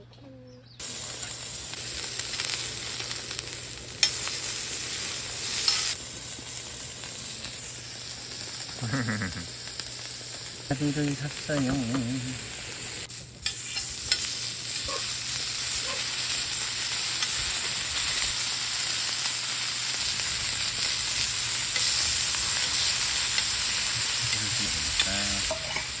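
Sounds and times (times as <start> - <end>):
food sizzling in a pan: 0.8 - 26.0.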